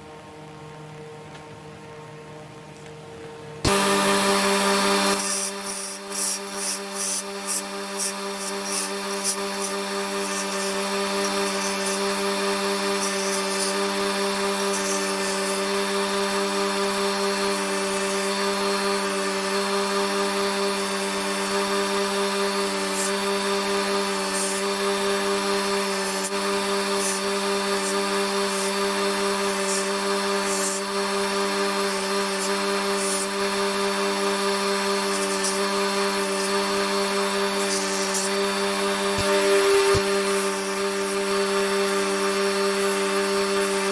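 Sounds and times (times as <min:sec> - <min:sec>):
belt grinder motor hum: 0:03.6 - 0:43.9.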